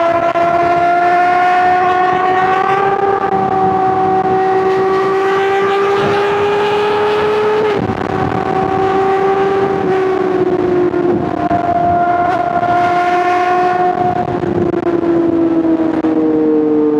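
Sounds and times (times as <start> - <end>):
motorcycle engine at high revs: 0.0 - 16.2.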